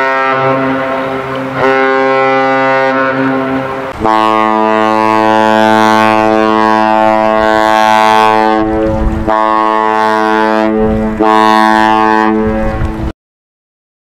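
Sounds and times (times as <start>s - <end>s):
ship horn blasts: 0.0s - 13.1s.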